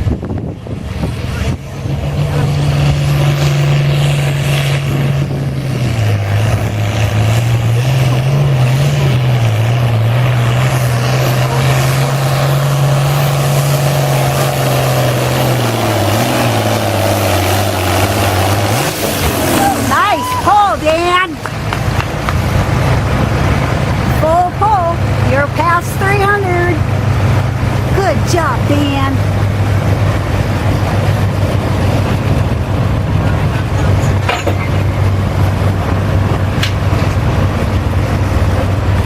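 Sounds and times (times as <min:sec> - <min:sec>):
tractor engine running under load: 0:00.0 - 0:39.0.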